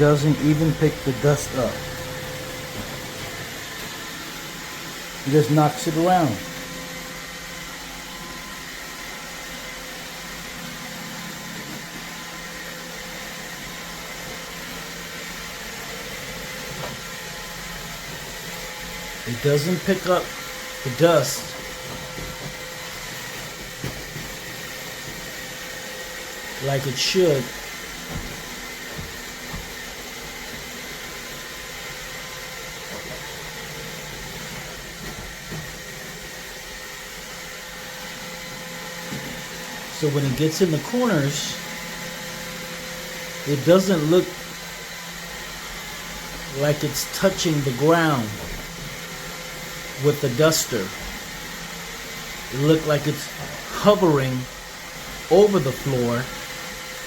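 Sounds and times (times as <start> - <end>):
robot vacuum whirring hum: 0.1 - 57.0.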